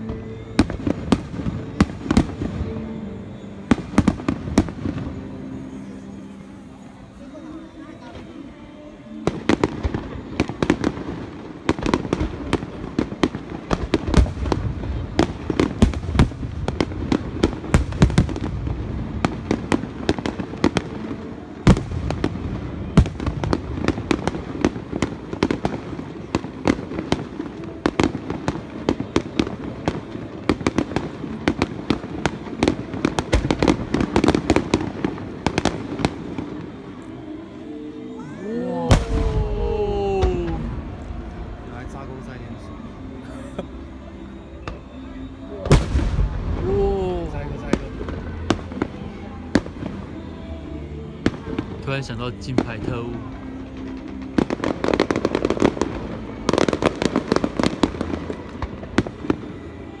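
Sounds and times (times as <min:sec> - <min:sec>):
fireworks bangs and crackles: 0:00.0 - 1:00.0.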